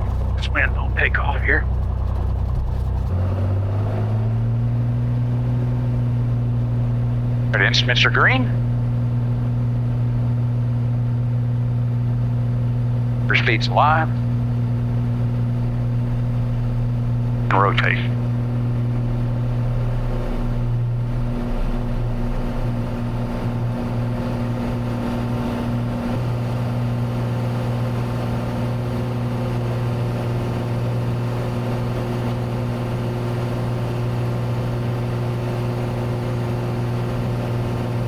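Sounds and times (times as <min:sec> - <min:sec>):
airplane engine and propeller droning: 0:00.0 - 0:38.0.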